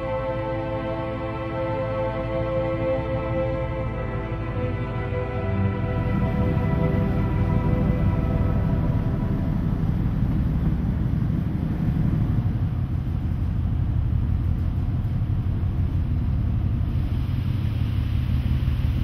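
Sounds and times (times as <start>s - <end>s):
ship engines low rumble: 0.0s - 19.0s.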